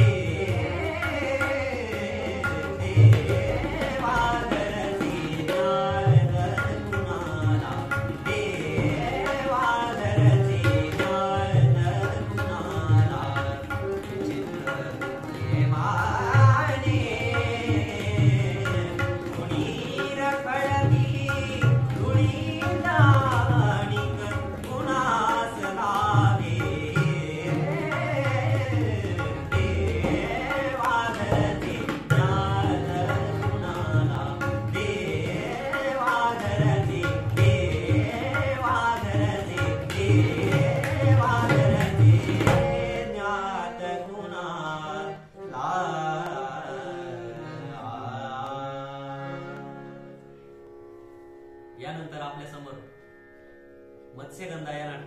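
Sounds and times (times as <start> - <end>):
man singing: 0.0 - 49.9
tabla rhythm: 0.0 - 50.2
sustained harmonium: 0.0 - 55.0.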